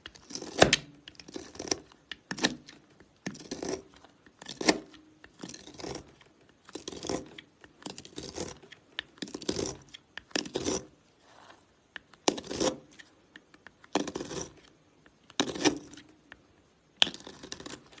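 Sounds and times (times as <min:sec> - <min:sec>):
blade cutting through soap: 0:00.0 - 0:11.0, 0:11.9 - 0:16.1, 0:17.0 - 0:18.0.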